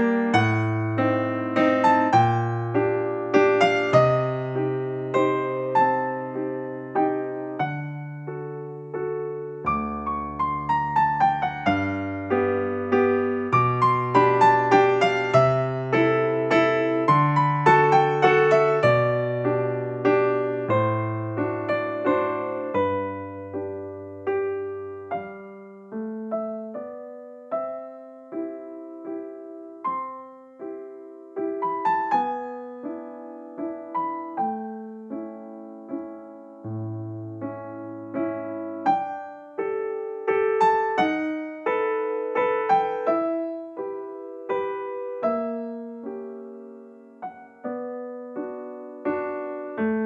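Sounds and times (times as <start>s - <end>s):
solo piano piece: 0.0s - 50.0s.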